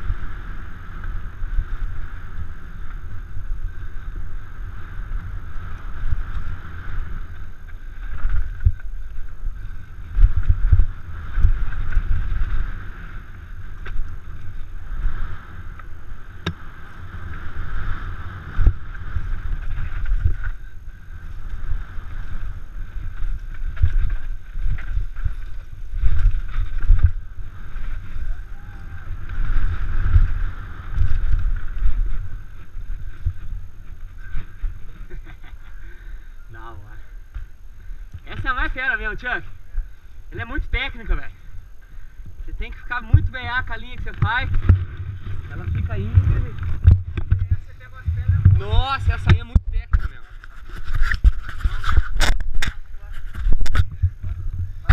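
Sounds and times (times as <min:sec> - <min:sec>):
bike rumbling over bumps: 0:00.0 - 0:54.9
wind on microphone: 0:00.0 - 0:54.9.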